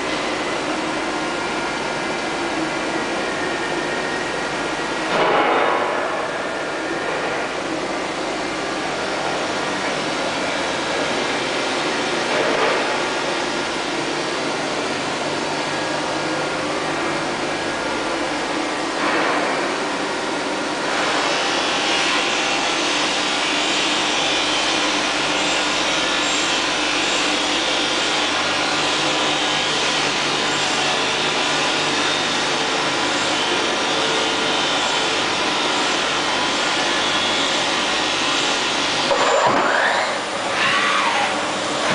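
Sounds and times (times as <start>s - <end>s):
machining center hum and hiss: 0.0s - 41.9s.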